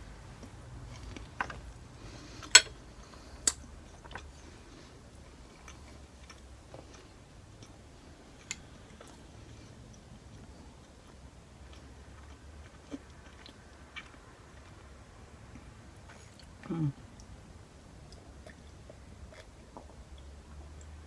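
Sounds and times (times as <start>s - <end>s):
soft chewing: 0.1s - 21.0s.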